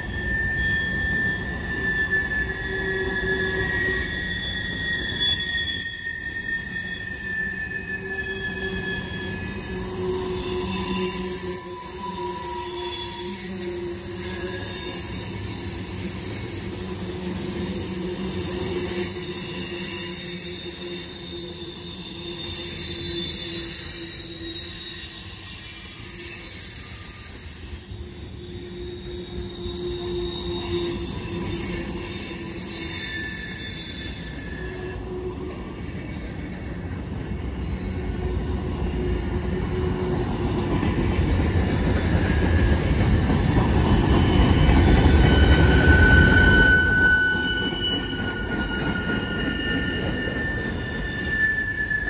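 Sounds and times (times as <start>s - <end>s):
rumble of train wheels: 0.0s - 52.0s
wheel flanges squealing: 0.0s - 52.0s.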